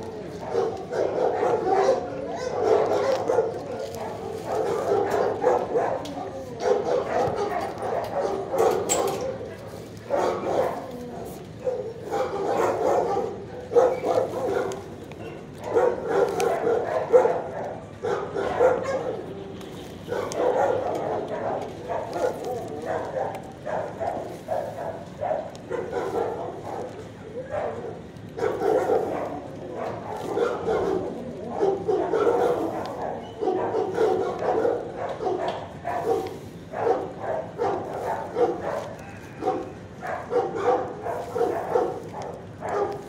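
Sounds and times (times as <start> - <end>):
dogs barking and yipping: 0.0 - 43.0.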